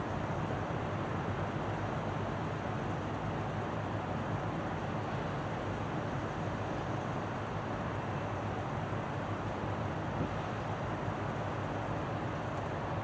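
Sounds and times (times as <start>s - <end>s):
ship engine rumble with hiss: 0.0s - 13.0s.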